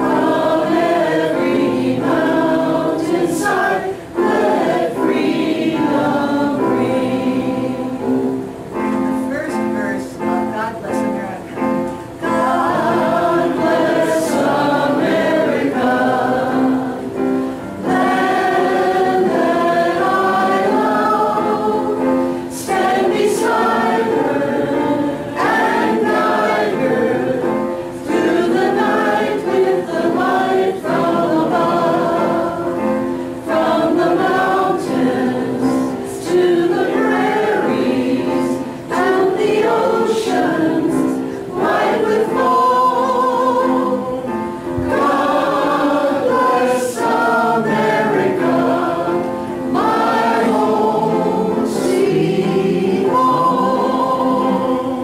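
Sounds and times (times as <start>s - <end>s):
congregation singing together: 0.0s - 55.0s.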